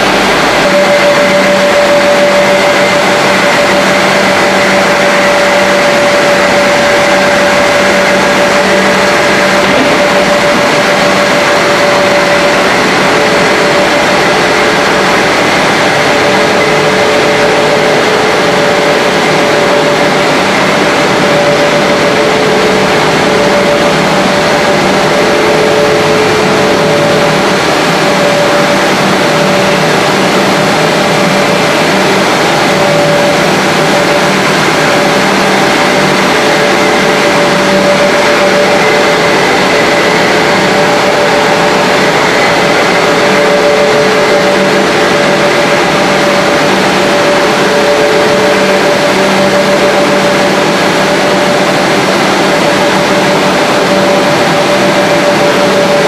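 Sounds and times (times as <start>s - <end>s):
held machine tones: 0.0s - 56.0s
machine drone: 0.0s - 56.0s.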